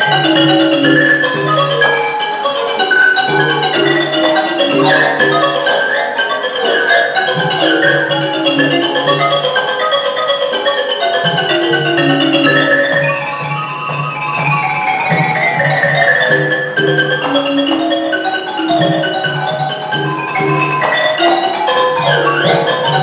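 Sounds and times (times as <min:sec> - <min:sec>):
hand drum: 0:00.0 - 0:23.0
wooden xylophone fast notes: 0:00.0 - 0:23.0.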